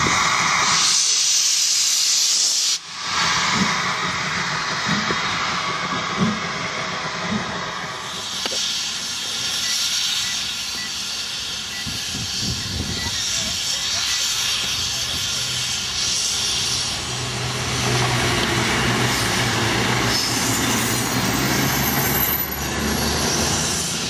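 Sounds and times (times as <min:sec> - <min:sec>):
locomotive exhaust beats: 0:00.0 - 0:24.0
passenger train rumble: 0:00.0 - 0:24.0
steam locomotive hissing steam: 0:00.0 - 0:24.0.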